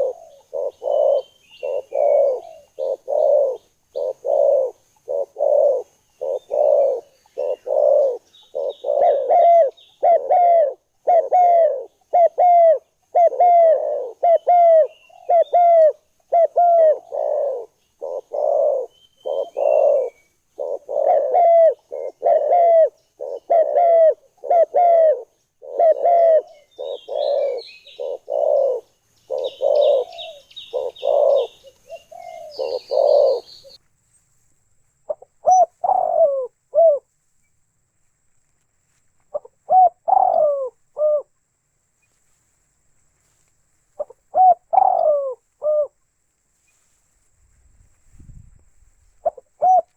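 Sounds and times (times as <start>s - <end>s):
dove cooing: 0.0s - 33.8s, 35.1s - 37.1s, 39.3s - 41.3s, 44.0s - 46.0s, 49.2s - 49.9s
small birds chirping: 0.0s - 47.3s.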